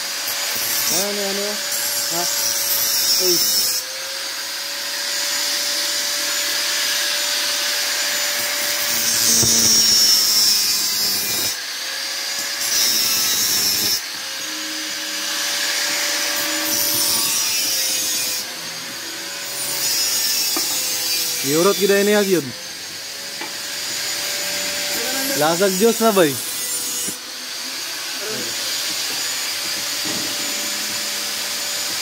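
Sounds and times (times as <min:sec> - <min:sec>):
angle grinder grinding metal: 0:00.0 - 0:32.0.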